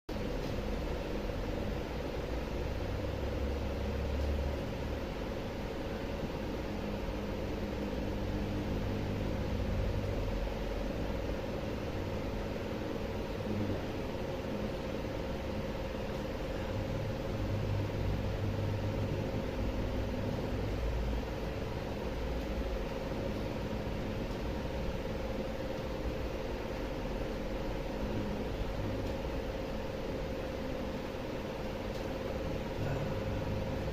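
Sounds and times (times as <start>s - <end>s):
steady mechanical hum: 0.1s - 33.9s.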